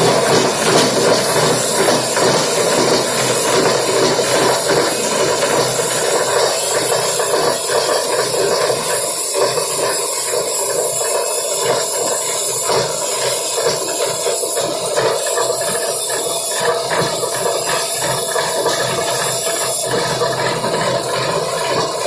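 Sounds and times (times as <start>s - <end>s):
recycling machinery running: 0.0s - 22.0s.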